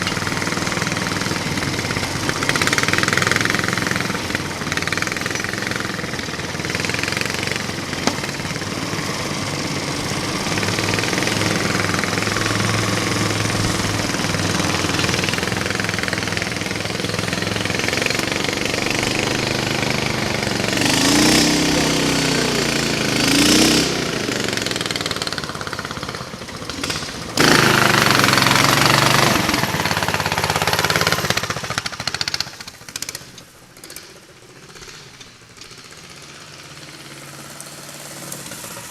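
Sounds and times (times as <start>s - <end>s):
mini bike engine chugging and revving: 0.0s - 38.9s.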